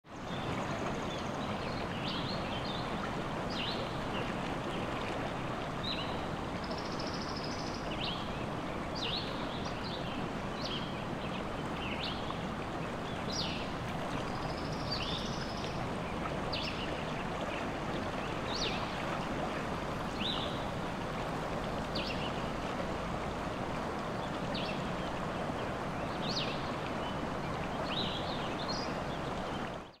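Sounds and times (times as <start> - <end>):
stream rushing: 0.1 - 30.0.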